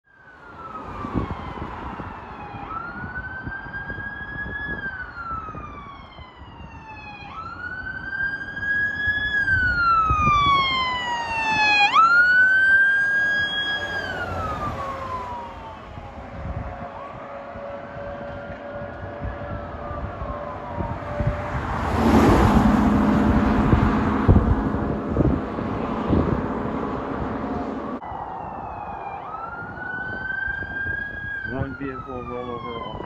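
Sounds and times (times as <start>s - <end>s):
road and engine noise: 0.0s - 33.0s
siren wailing: 0.1s - 25.3s, 27.3s - 33.0s.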